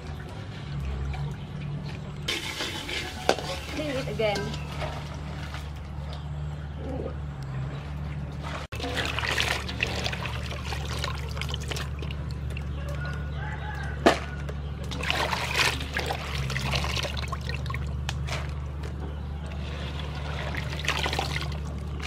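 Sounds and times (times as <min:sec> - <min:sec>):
water sloshing and splashing: 0:00.0 - 0:06.8, 0:07.5 - 0:22.0.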